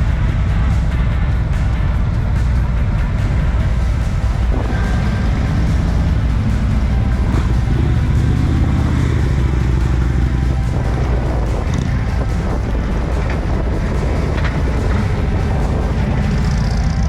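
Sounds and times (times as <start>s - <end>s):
motorcycle trike engine running: 0.0s - 17.0s.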